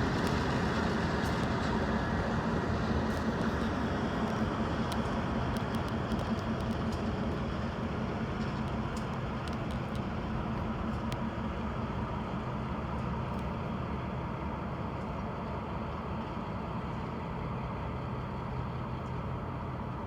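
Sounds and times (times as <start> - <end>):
locomotive diesel engine drone: 0.0 - 20.0.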